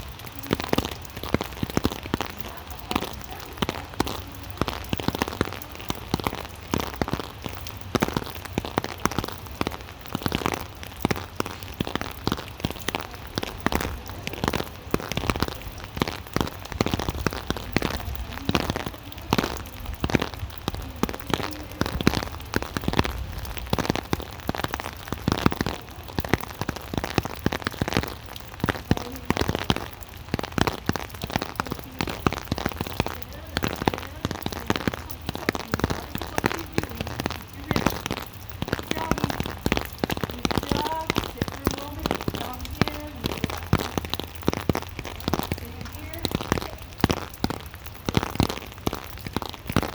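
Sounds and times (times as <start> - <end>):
rain drops pattering: 0.0 - 49.9.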